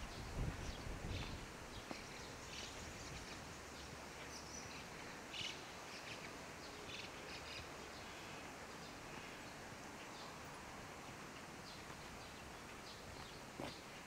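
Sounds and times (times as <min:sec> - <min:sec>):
faint outdoor background noise: 0:00.0 - 0:14.0
small birds chirping: 0:00.0 - 0:14.0.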